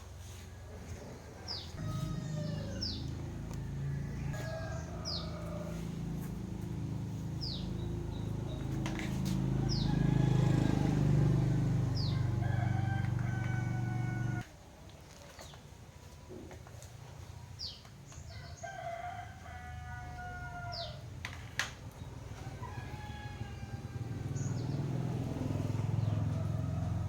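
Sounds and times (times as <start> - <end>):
chickens and roosters calling: 0.2 - 14.5, 18.2 - 21.2, 22.0 - 27.0.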